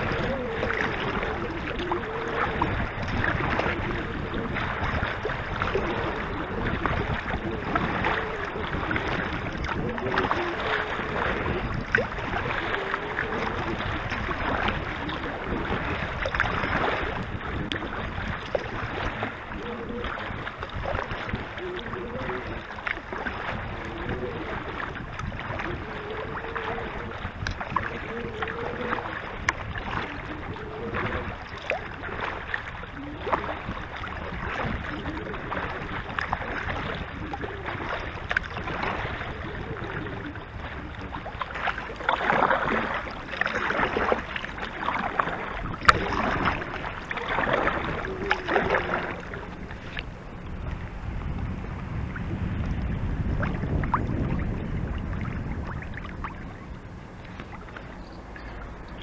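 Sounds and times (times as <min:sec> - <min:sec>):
paddle strokes splashing: 0:00.0 - 0:59.0
water lapping against kayak hull: 0:00.0 - 0:59.0.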